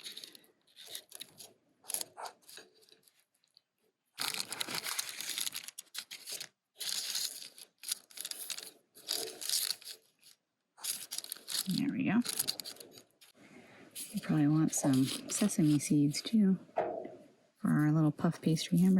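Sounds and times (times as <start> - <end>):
wrapping sheet crinkling and tearing: 0.0 - 16.1
faint handling sounds: 0.0 - 18.9.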